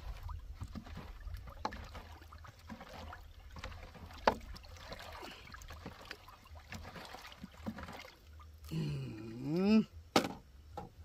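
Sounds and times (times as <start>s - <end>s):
water sloshing and swirling: 0.0s - 10.2s.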